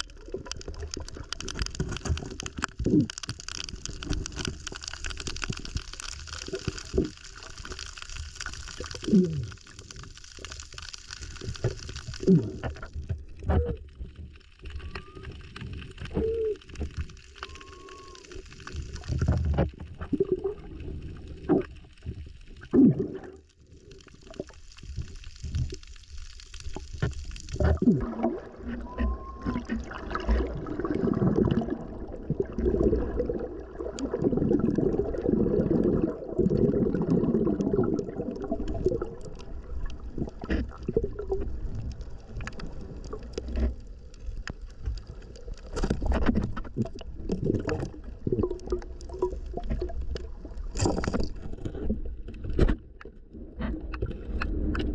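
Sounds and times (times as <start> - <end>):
underwater bubbling and gurgling: 0.0 - 54.9.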